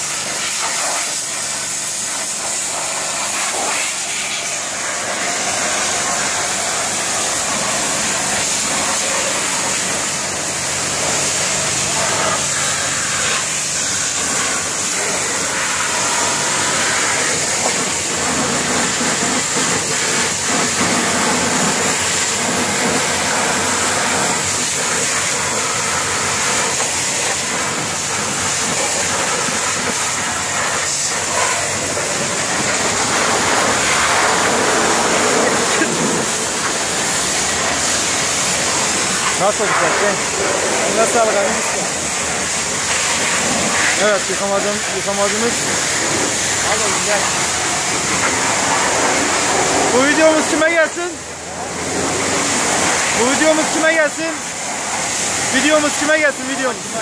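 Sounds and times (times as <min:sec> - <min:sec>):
pressure washer spraying on metal: 0:00.0 - 0:57.0.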